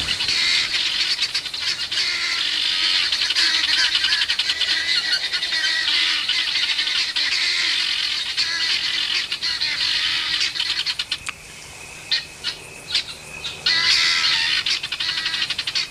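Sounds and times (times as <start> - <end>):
guinea fowl alarm cackles: 0.0 - 11.3, 12.1 - 15.9.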